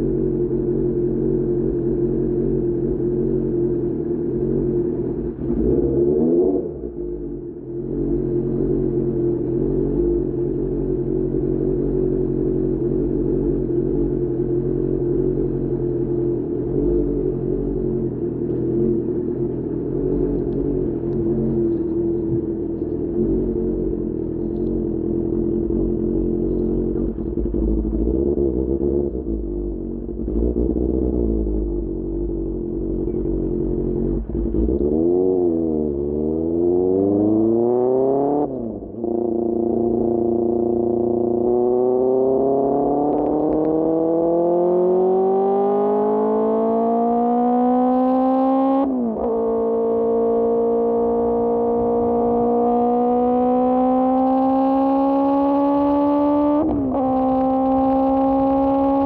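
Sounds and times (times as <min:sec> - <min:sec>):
motorcycle engine revving: 0:07.8 - 0:59.0.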